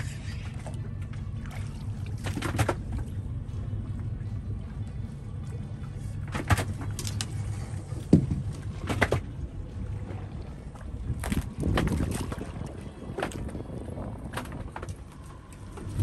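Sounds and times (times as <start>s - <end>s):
knocks and clatters on boat: 0.0s - 16.0s.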